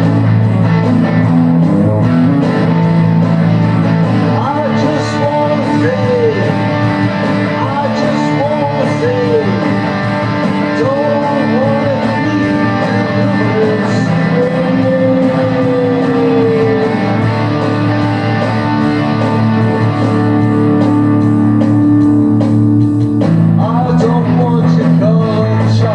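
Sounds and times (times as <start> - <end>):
lead guitar bent notes: 0.0 - 25.9
rock music: 0.0 - 25.9.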